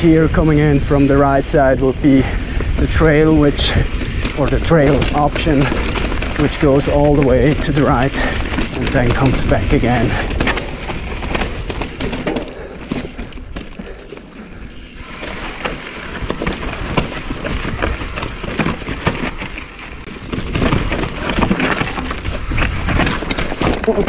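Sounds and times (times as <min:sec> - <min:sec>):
bike rattling and knocking: 0:00.0 - 0:24.0
tyres crunching over gravel: 0:00.0 - 0:24.0.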